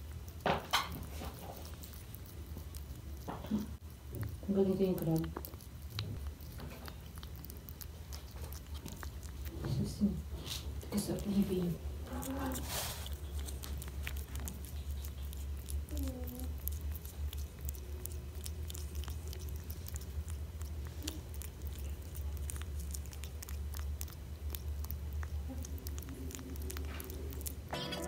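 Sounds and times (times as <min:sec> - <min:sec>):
kitten licking and chewing: 0:00.0 - 0:28.0
steady low hum: 0:00.0 - 0:28.0.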